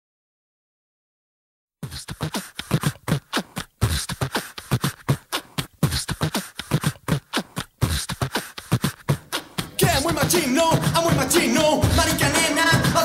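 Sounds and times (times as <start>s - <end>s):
beatboxing percussive beat: 1.8s - 13.0s.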